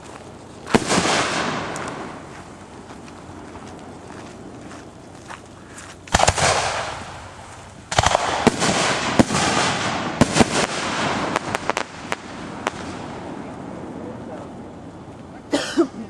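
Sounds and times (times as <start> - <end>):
fireworks bangs and crackling: 0.0 - 15.3.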